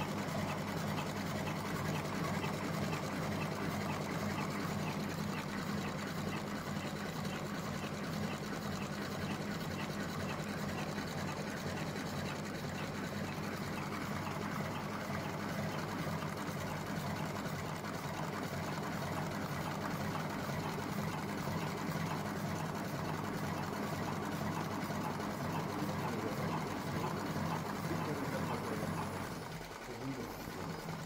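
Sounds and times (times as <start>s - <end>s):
cigarette filling machine running: 0.0s - 31.0s.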